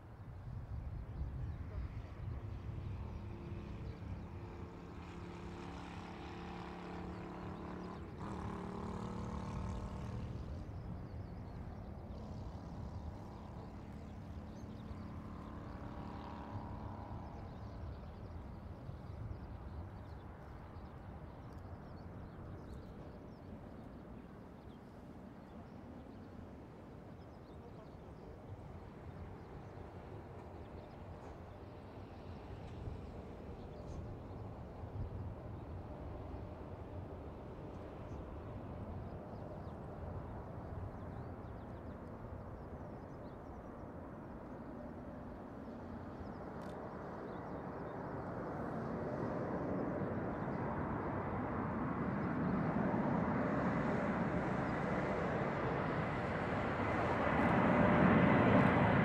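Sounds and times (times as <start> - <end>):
jet engines low rumble: 0.0 - 59.0
jet engine whine: 0.1 - 59.0.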